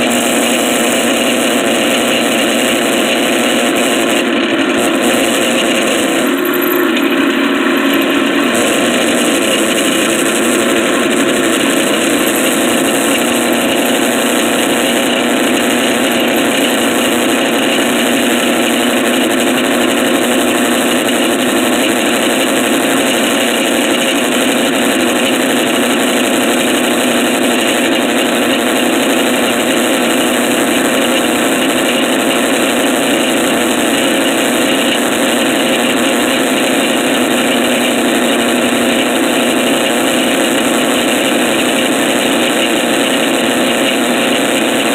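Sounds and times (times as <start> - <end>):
drill press boring steel: 0.0 - 44.9.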